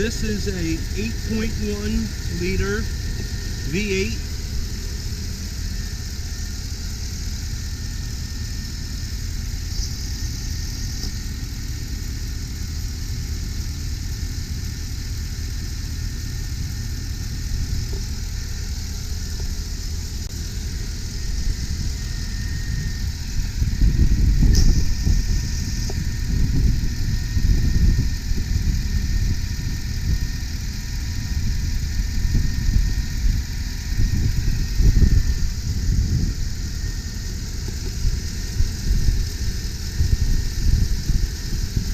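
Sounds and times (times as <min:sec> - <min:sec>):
uneven low rumbling: 0:00.0 - 0:15.3, 0:16.0 - 0:41.9
truck engine idling: 0:00.0 - 0:41.9.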